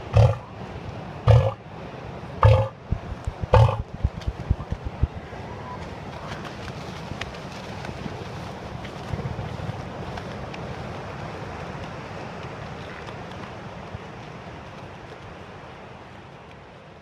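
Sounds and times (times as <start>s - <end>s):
surf: 0.0s - 16.5s
wind: 0.0s - 17.0s.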